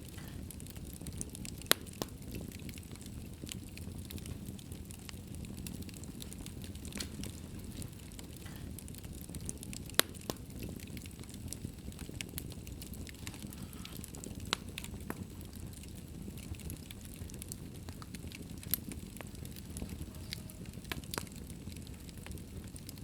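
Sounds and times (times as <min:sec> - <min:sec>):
fire pops: 0:00.0 - 0:23.0
wood fire crackling: 0:00.0 - 0:23.0.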